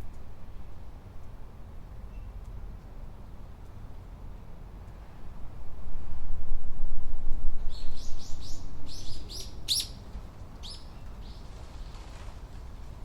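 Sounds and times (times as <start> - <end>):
low wind rumble: 0.0 - 13.0.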